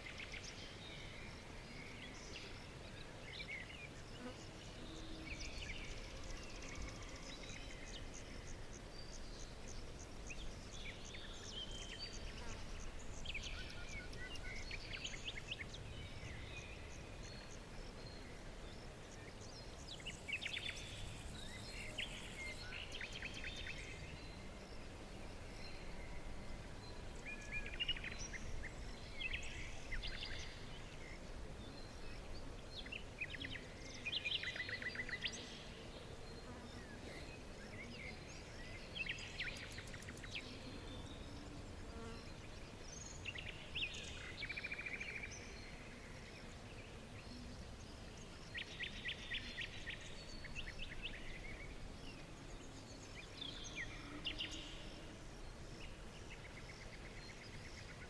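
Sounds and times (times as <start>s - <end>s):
birds singing trills and chirps: 0.0s - 58.0s
low background hiss: 0.0s - 58.0s.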